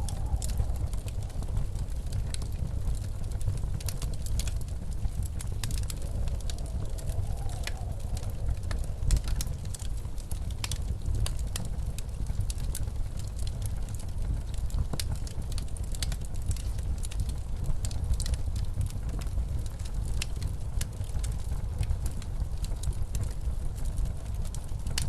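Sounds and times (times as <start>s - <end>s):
blizzard wind rumble: 0.0s - 25.0s
faint wind howl: 0.0s - 25.0s
wood fire crackling: 0.0s - 25.0s.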